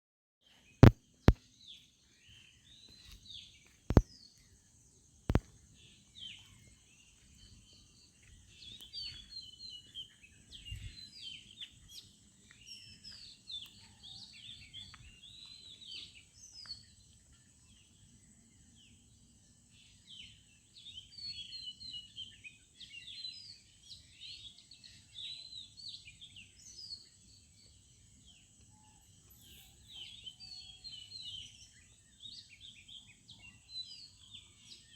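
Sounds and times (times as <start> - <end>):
small birds chirping: 0.4 - 34.9.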